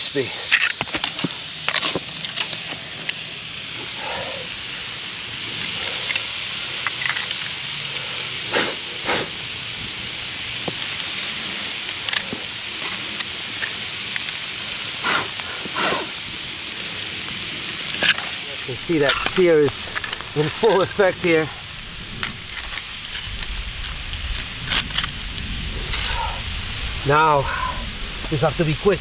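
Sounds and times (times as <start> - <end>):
meat sizzling on hot stones: 0.2 - 29.0.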